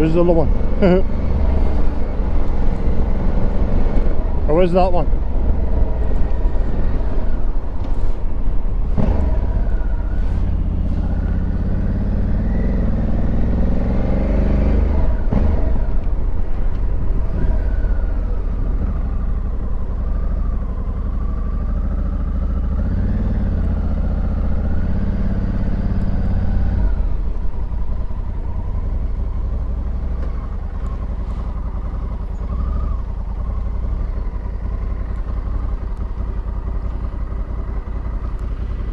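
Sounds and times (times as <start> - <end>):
low wind rumble: 0.0 - 38.9
motorcycle engine accelerating: 0.0 - 38.9.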